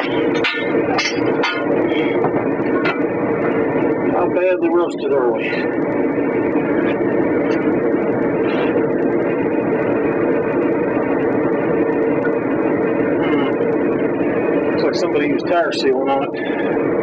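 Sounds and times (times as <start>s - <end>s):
machine drone: 0.0s - 17.0s.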